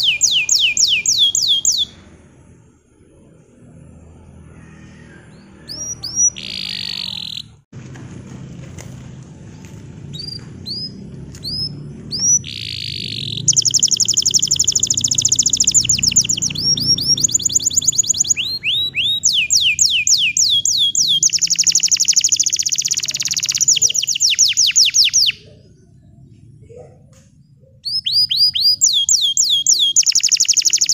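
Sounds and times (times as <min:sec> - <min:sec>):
canary singing trills: 0:00.0 - 0:02.2, 0:04.4 - 0:07.6, 0:10.0 - 0:26.2, 0:27.5 - 0:30.9.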